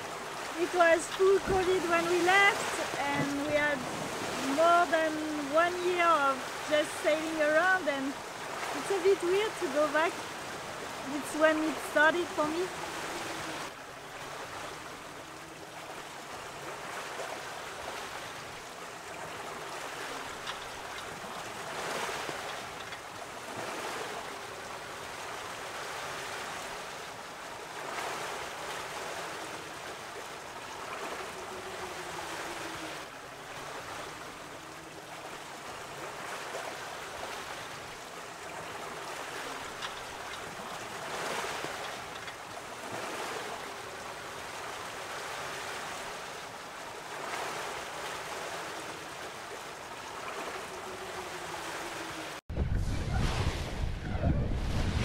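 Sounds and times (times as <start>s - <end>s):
sea water rushing past a hull: 0.0s - 55.0s.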